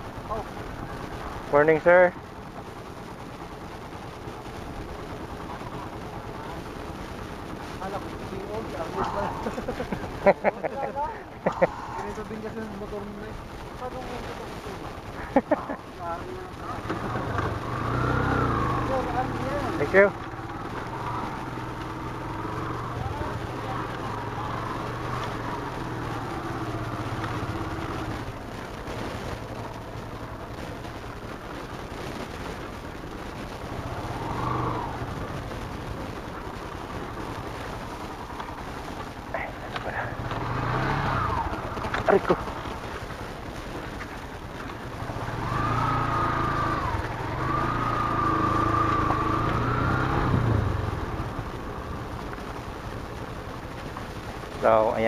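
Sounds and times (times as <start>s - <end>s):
low road rumble: 0.0s - 55.0s
motorcycle engine chugging: 0.0s - 55.0s.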